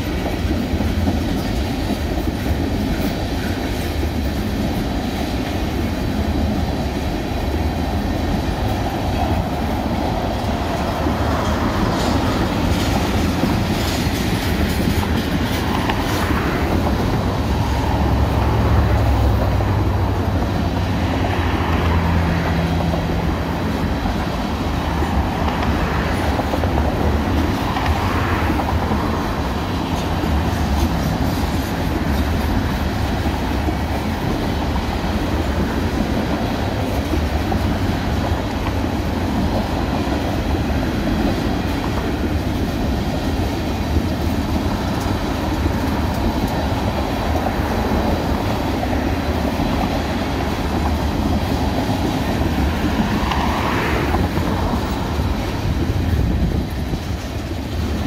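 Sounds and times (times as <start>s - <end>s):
steel wheels rumbling on rail: 0.0s - 58.0s
train cars clickety-clack: 0.0s - 58.0s.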